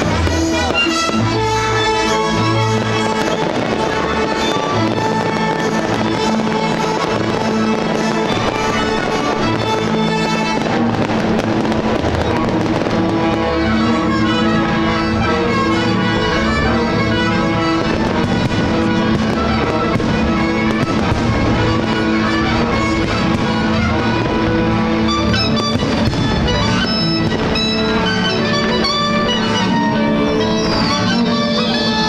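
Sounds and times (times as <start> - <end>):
fireworks banging and crackling: 0.0 - 32.0
instrumental music: 0.0 - 32.0.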